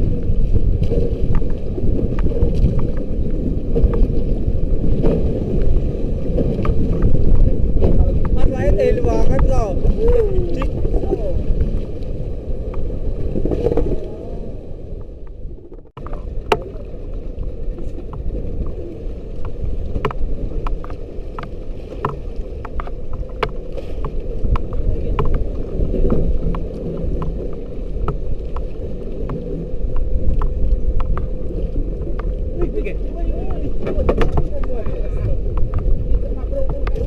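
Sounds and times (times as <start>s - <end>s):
water rumble: 0.0s - 37.0s
wind: 0.0s - 37.0s.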